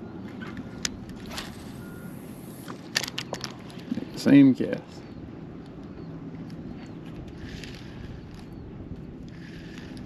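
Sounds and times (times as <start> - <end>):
faint hum: 0.0 - 10.0
low outdoor rumble: 0.0 - 10.0.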